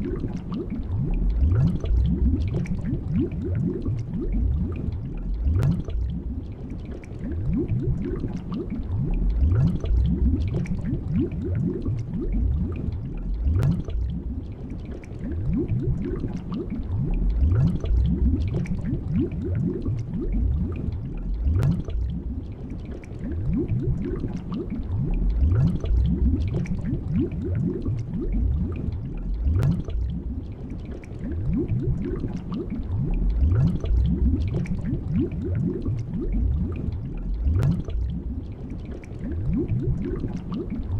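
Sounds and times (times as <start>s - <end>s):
underwater bubbling and gurgling: 0.0s - 40.9s.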